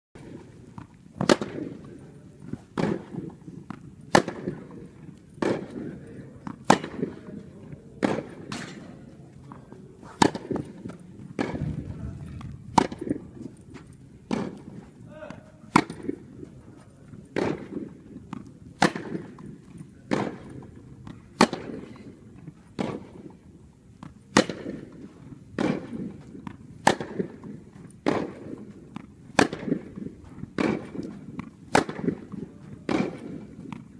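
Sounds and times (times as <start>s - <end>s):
tennis balls struck by rackets: 0.2s - 33.9s
tennis balls bouncing: 0.3s - 16.4s, 17.1s - 33.9s.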